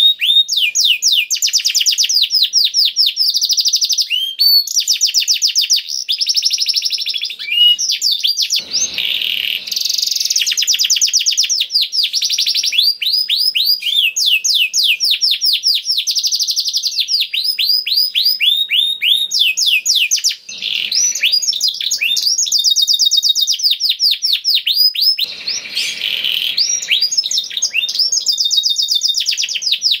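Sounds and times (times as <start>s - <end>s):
canary singing trills: 0.0s - 30.0s.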